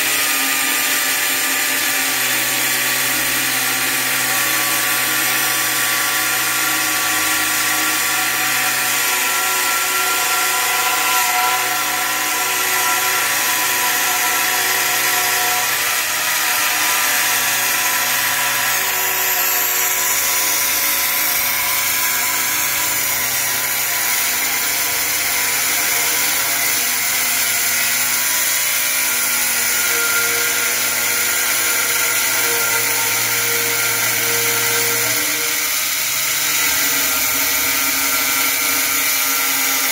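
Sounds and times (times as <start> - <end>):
angle grinder cutting tile: 0.0 - 39.9.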